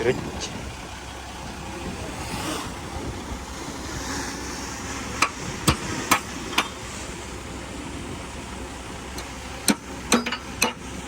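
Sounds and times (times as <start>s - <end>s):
earthmoving machinery rumbling: 0.0s - 11.0s.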